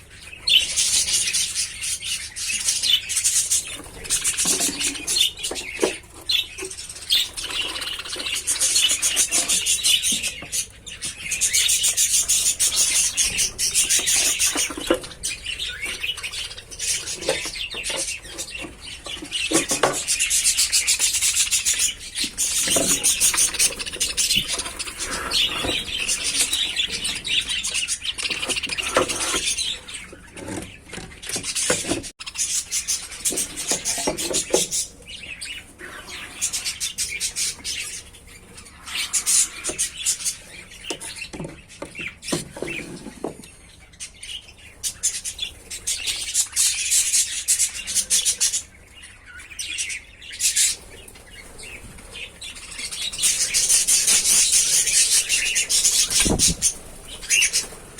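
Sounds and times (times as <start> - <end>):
lovebirds chirping: 0.0 - 57.9.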